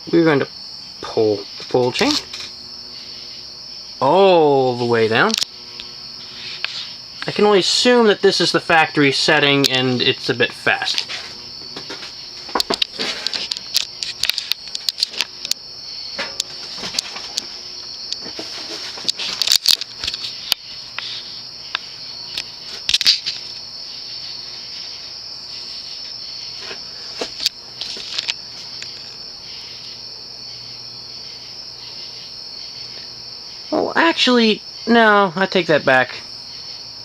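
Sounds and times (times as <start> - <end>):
ceiling fan motor hum: 0.0 - 34.0.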